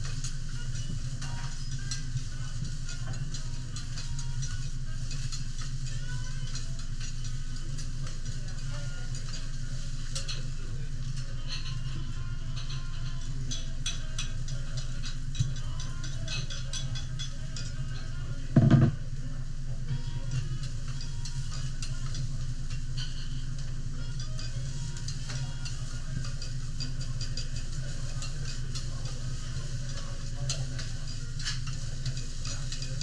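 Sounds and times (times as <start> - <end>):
light sizzling: 0.0 - 18.5, 19.4 - 33.0.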